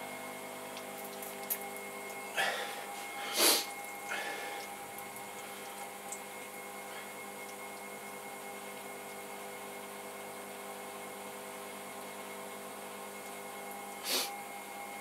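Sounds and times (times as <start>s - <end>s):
pottery wheel humming: 0.0s - 15.0s.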